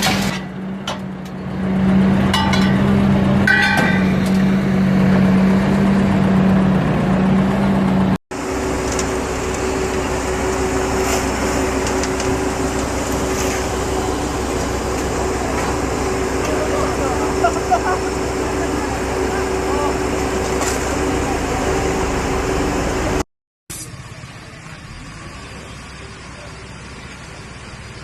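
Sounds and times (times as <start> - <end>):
machine engine running: 0.7 - 28.0
steady machine hum: 1.8 - 28.0.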